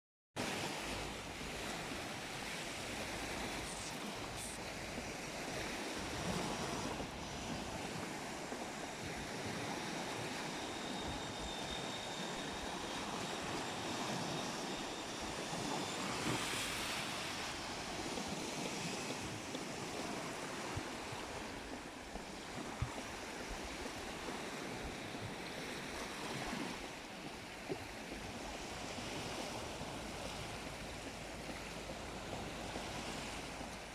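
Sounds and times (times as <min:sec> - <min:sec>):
sea waves washing onto shore: 0:00.4 - 0:33.9.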